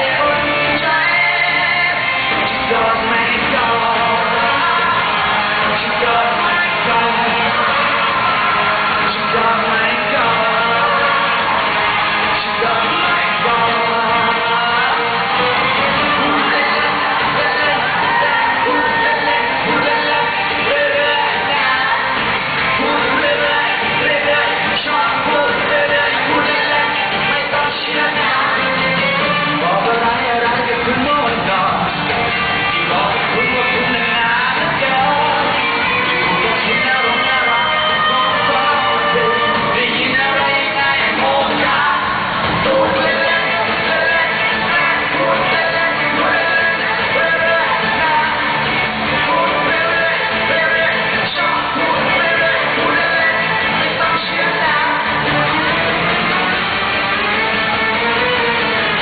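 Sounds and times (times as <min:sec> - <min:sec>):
person singing with band: 0:00.0 - 0:59.0.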